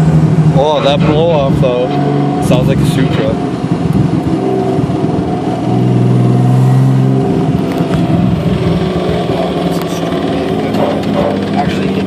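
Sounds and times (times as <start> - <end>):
car engine droning while driving: 0.0 - 12.0.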